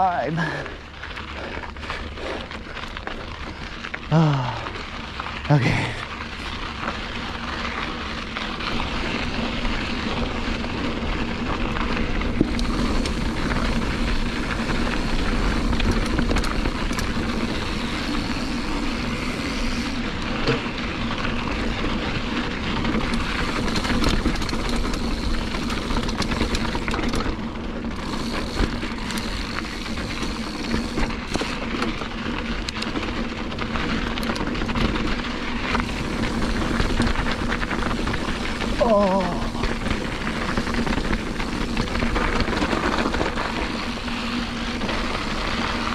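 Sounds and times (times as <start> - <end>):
bicycle clicks and rattles: 0.0 - 45.9
bicycle tyre noise: 0.0 - 45.9.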